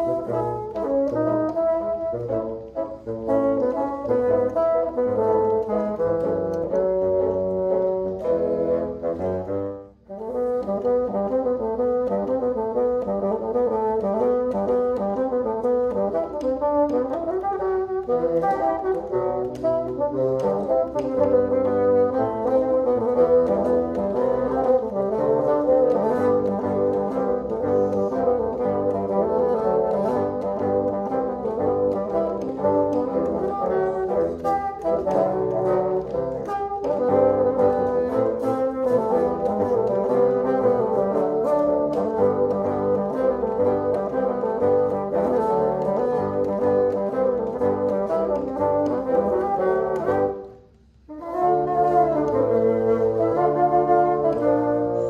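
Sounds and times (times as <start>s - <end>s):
bassoon quartet playing a jig: 0.0s - 55.0s.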